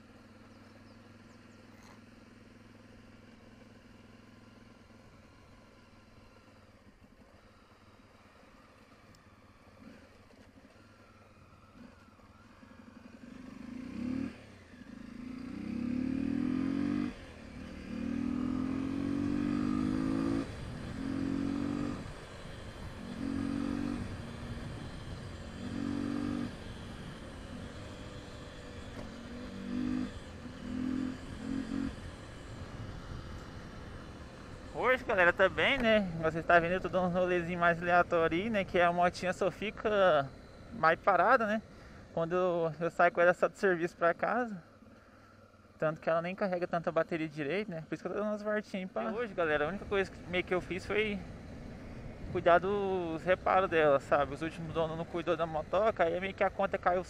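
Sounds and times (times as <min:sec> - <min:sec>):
motorcycle engine revving: 0:00.0 - 0:42.8, 0:44.4 - 0:57.0.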